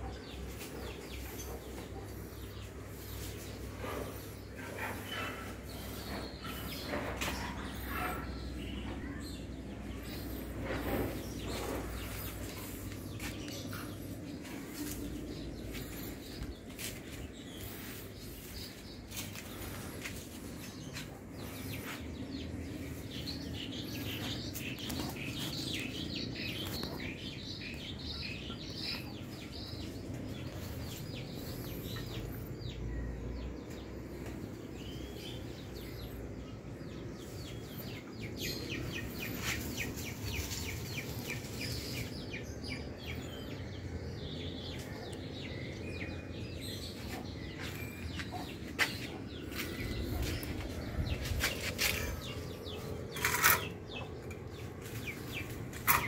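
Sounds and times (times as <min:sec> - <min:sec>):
low outdoor rumble: 0:00.0 - 0:56.0
small birds chirping: 0:00.0 - 0:56.0.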